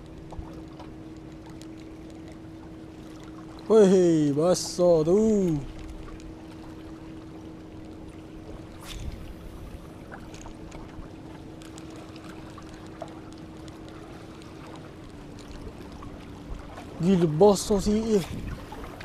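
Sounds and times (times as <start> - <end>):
low hum: 0.0 - 19.0
water noise: 0.0 - 19.0.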